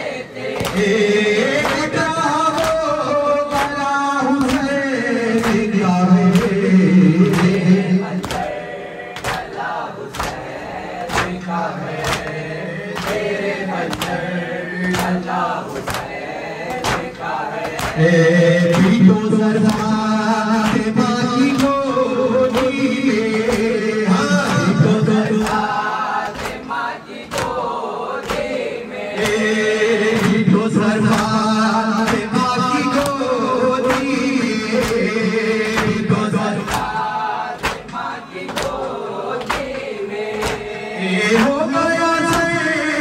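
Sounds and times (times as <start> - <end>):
men chanting in unison: 0.0 - 43.0.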